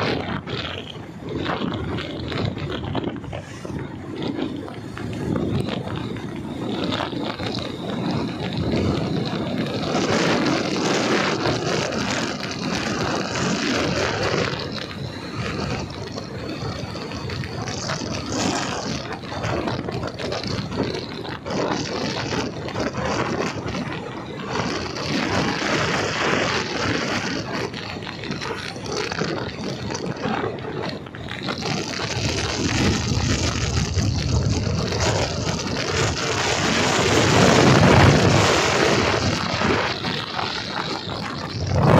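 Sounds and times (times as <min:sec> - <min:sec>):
motorcycle engine: 0:00.0 - 0:41.9
wind rushing over microphone: 0:00.0 - 0:41.9.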